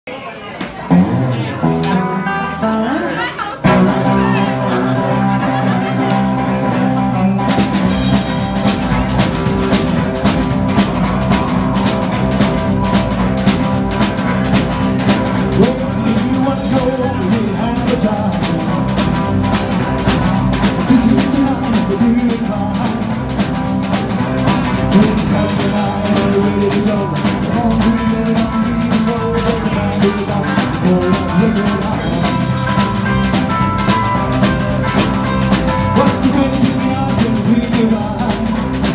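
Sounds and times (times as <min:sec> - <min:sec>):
electric guitars: 0:00.6 - 0:38.9
drum kit: 0:03.7 - 0:38.9.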